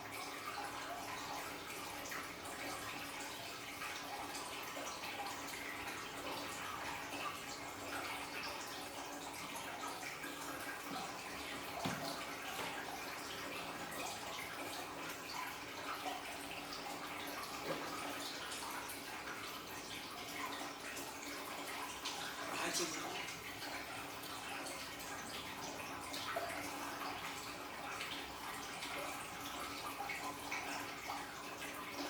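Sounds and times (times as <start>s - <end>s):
water dripping: 0.0s - 32.0s
water trickling and splashing: 0.0s - 32.0s.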